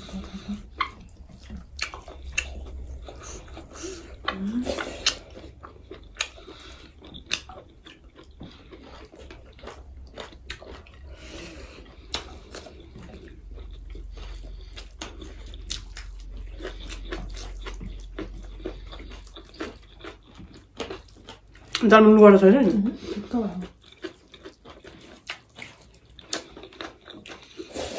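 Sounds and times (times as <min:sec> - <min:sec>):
chewing and mouth smacks: 0:00.0 - 0:21.9, 0:23.2 - 0:27.9
low steady hum: 0:00.0 - 0:27.6.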